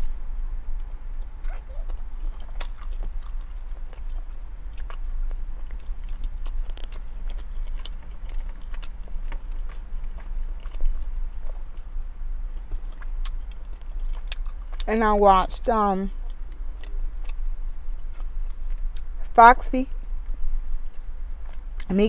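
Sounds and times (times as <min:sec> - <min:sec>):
chewing with wet mouth smacks: 0:00.8 - 0:14.9, 0:15.6 - 0:19.3, 0:19.9 - 0:21.9.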